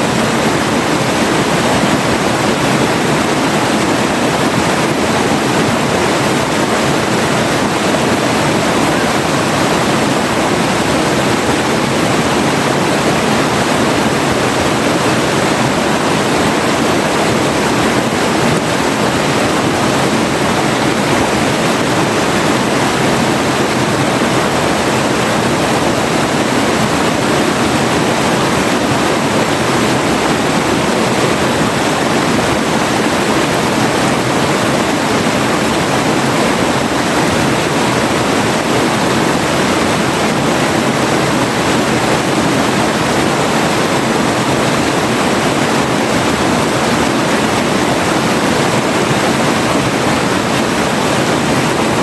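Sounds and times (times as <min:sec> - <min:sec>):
river water flowing: 0:00.0 - 0:52.0.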